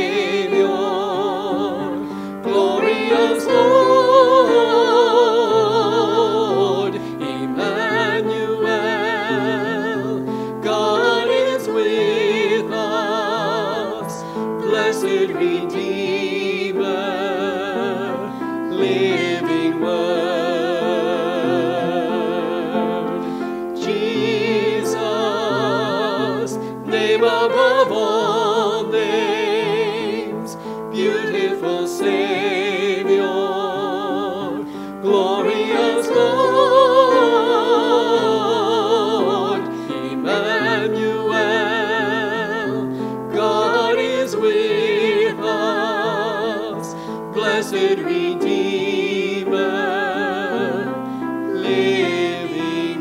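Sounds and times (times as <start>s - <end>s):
classical singing with vibrato: 0.0s - 53.0s.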